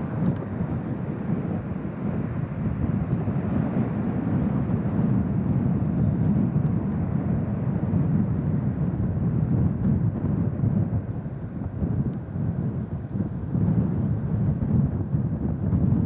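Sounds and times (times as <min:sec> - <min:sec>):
jet engines taking off: 0:00.0 - 0:14.6.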